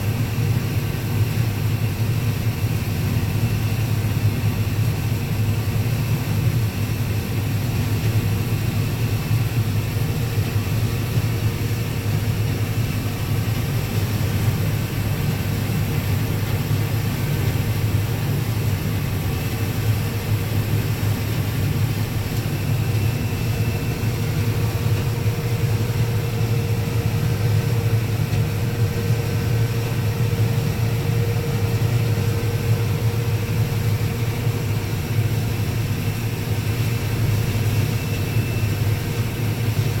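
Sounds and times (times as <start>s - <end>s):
combine harvester drone: 0.0s - 40.0s
faint steady whine: 0.0s - 40.0s.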